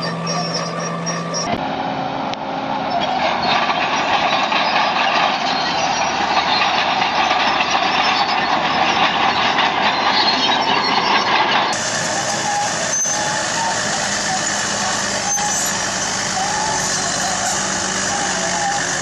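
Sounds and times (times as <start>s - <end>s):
earth-moving machinery engine: 0.0s - 19.0s
rattling clattering noise: 3.2s - 19.0s.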